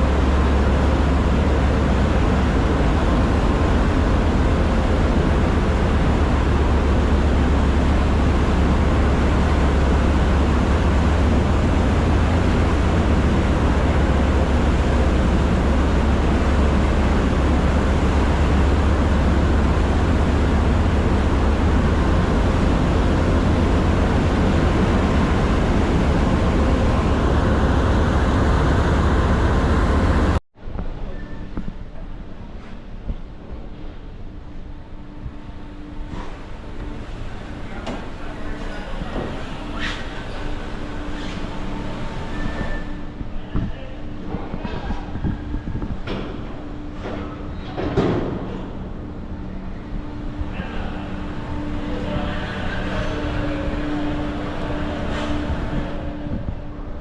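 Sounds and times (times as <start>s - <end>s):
vehicle engine low rumble: 0.0s - 57.0s.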